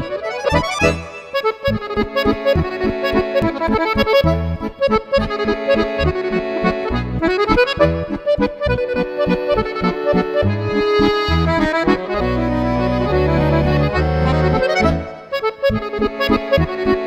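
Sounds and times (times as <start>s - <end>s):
bass notes beat: 0.0s - 15.1s
accordion playing lively tune: 0.0s - 17.0s.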